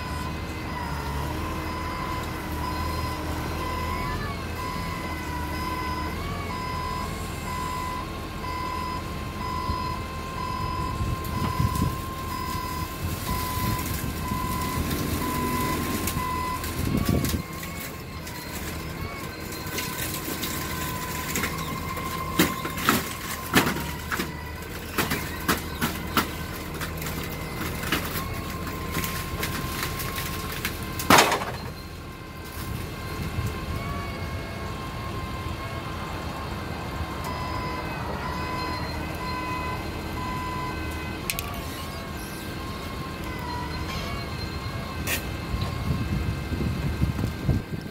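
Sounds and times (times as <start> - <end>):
reversing alarm beeping: 0.0 - 47.8
forklift engine running: 0.0 - 47.9.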